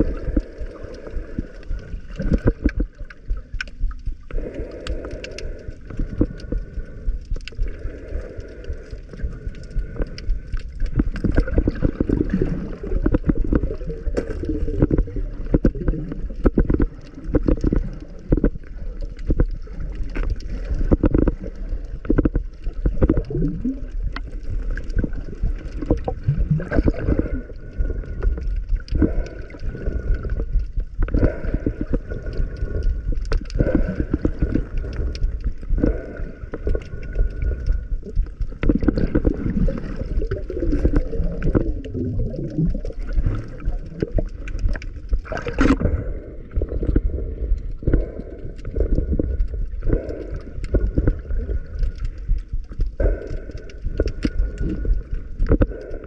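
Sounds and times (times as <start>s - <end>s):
low underwater rumble: 0.0s - 56.0s
water gurgling and bubbling: 0.0s - 56.0s.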